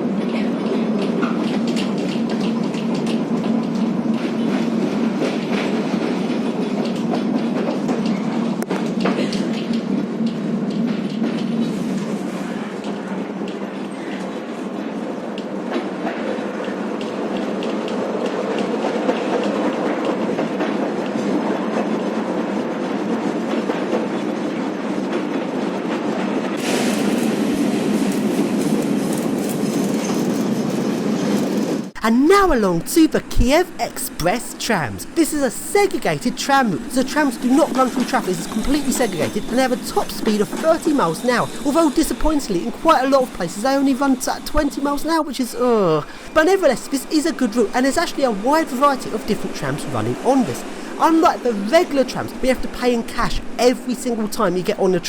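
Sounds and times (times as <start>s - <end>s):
tram wheels clattering: 0.0s - 55.0s.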